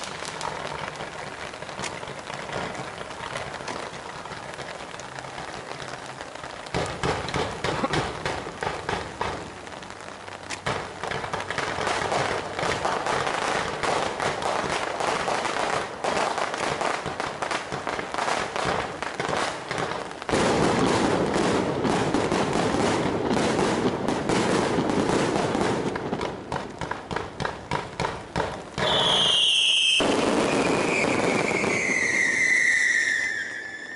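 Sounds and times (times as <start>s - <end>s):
fireworks crackling and popping: 0.0s - 33.9s
whistling fireworks: 0.0s - 33.9s.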